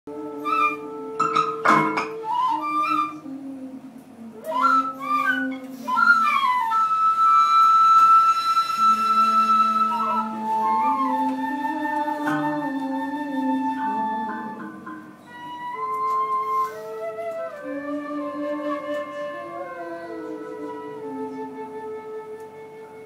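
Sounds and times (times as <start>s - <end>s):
flutes playing: 0.1s - 23.0s.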